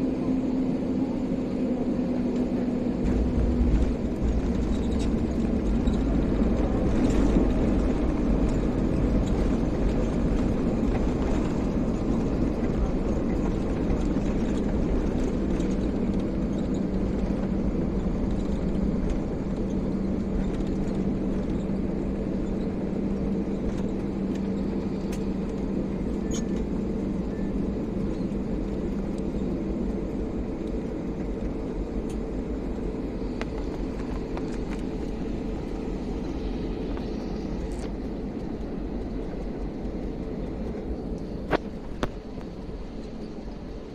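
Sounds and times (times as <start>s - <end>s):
airliner cabin engine rumble: 0.0s - 43.9s
constant low hum: 0.0s - 43.9s.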